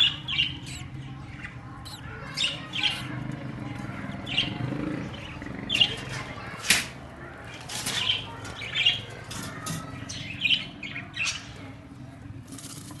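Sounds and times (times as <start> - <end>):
birds squawking: 0.0 - 11.9.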